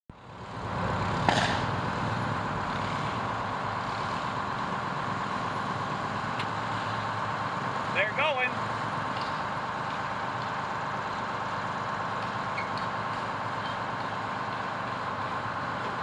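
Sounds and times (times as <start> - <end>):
fire truck engine idling: 0.1 - 16.0.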